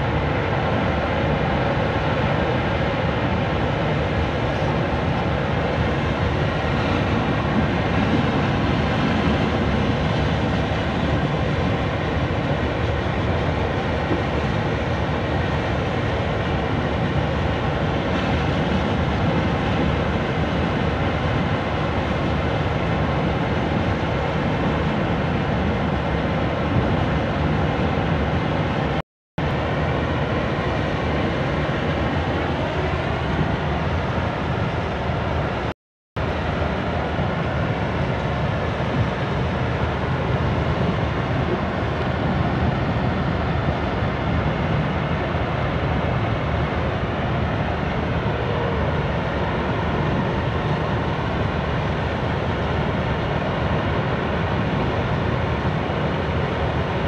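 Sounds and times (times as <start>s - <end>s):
conveyor machinery rumble: 0.0s - 57.0s.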